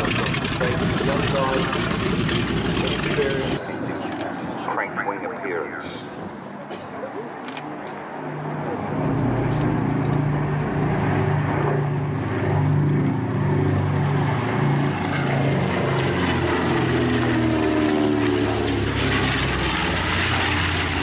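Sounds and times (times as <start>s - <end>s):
propeller plane engines overhead: 0.0s - 21.0s.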